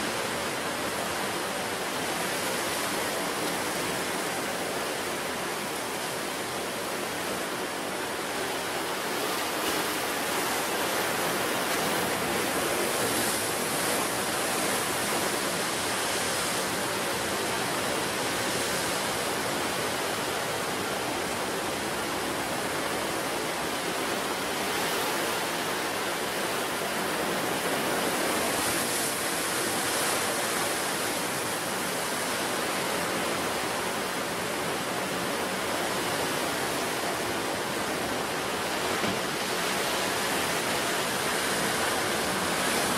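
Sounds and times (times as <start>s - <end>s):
sea surf washing ashore: 0.0s - 42.9s.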